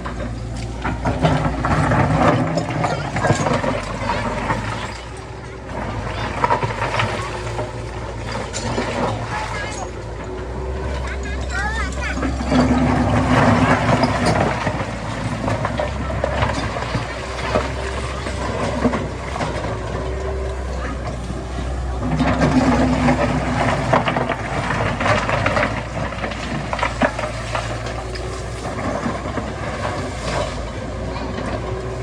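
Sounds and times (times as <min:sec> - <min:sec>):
heavy diesel machinery engine: 0:00.0 - 0:32.0.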